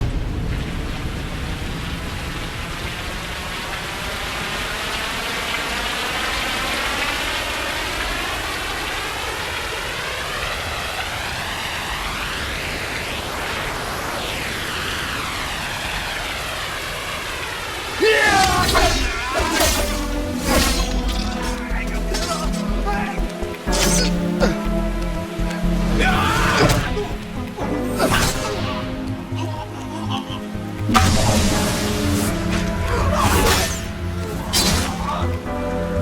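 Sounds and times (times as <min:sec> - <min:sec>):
heavy rain hissing: 0:00.0 - 0:36.0.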